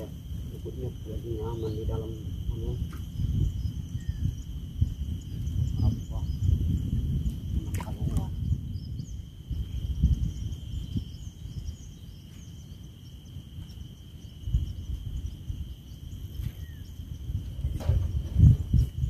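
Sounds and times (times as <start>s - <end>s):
high-pitched insect drone: 0.0s - 19.0s
wind rumble on microphone: 0.0s - 19.0s
faint bird chirps: 0.8s - 19.0s.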